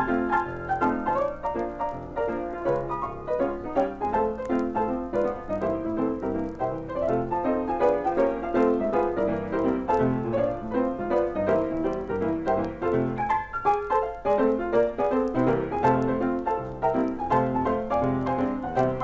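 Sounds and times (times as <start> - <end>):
cartoon piano music: 0.0 - 19.0.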